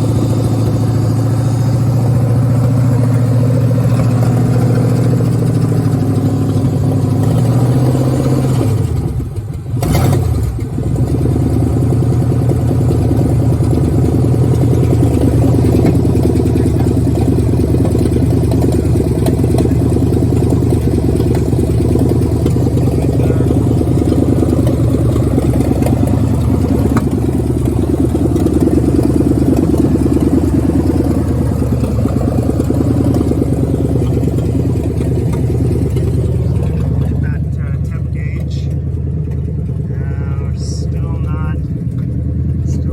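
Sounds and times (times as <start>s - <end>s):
loud truck engine running: 0.0s - 42.9s.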